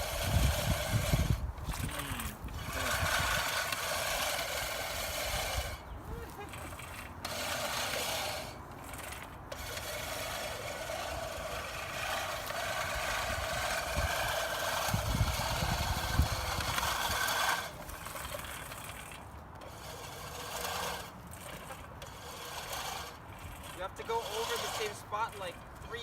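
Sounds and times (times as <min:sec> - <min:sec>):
push reel mower whirring: 0:00.0 - 0:26.0.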